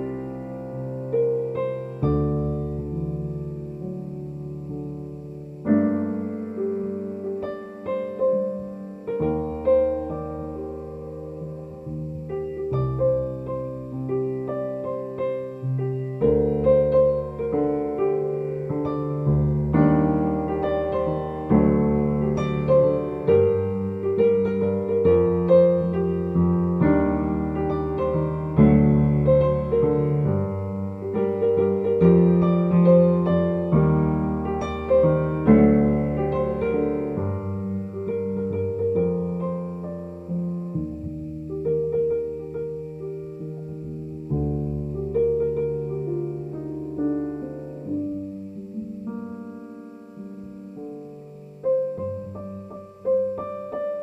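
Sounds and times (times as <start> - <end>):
slow solo piano music: 0.0 - 54.0.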